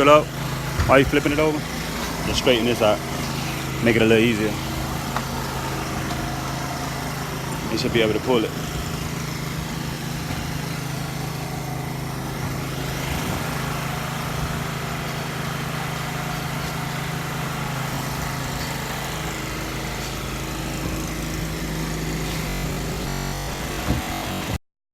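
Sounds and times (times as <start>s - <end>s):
motor humming steadily: 0.0s - 24.6s.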